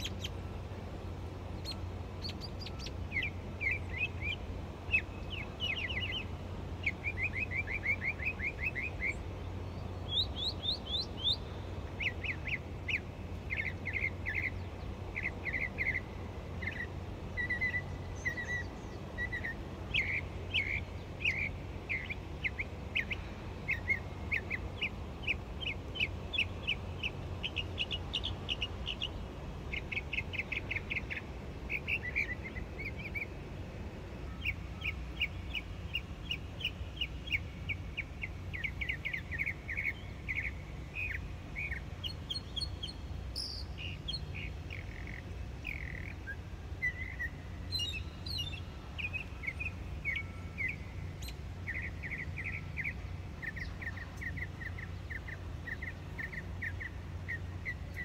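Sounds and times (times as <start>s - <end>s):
small birds chirping: 0.0s - 33.6s, 34.2s - 58.0s.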